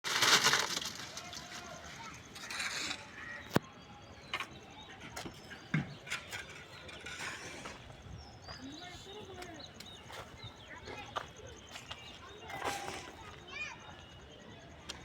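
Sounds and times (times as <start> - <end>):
steady noisy background: 0.2 - 15.0
indistinct voices: 0.9 - 15.0.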